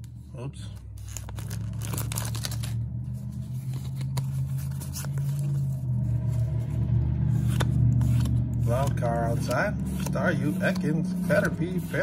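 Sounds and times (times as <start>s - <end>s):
steady low hum: 0.0s - 12.0s
trading cards rustling: 0.0s - 12.0s.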